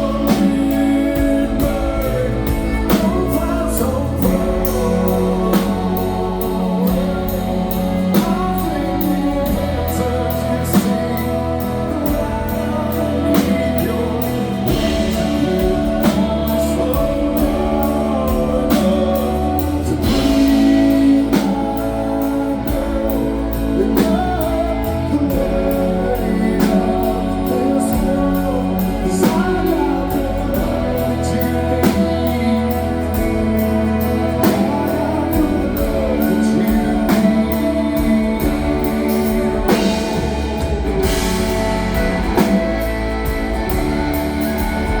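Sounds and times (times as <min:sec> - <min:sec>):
live band playing slow waltz: 0:00.0 - 0:45.0.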